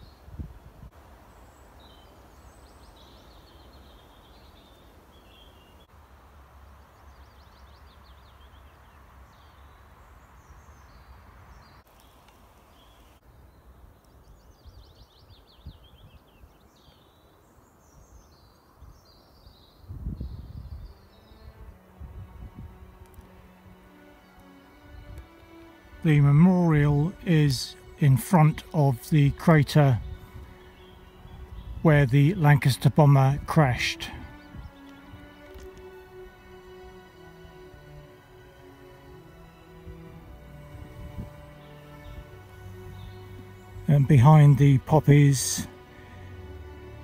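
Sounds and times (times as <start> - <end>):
wind hiss: 0.0 - 26.3, 27.0 - 43.9, 45.7 - 47.0
songbirds singing and trilling: 0.0 - 47.0.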